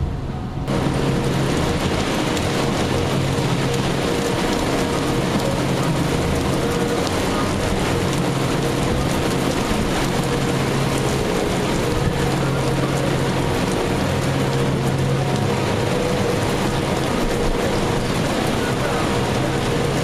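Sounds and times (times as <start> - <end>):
heavy rain on deck: 0.0 - 20.0
low machine hum: 0.0 - 20.0.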